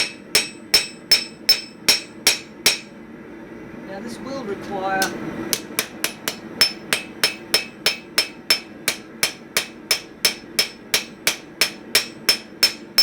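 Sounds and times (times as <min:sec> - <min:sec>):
hammer striking steel on anvil: 0:00.0 - 0:03.0, 0:05.0 - 0:13.0.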